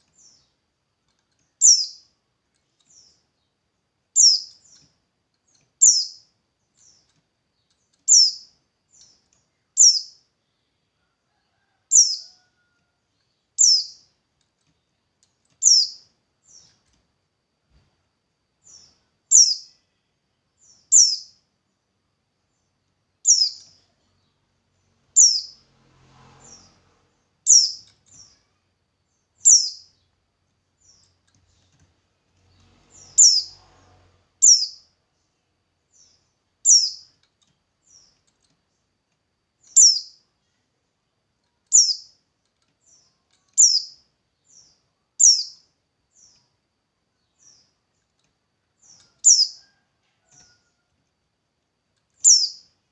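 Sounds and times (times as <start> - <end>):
songbird chirping: 0.0 - 52.9.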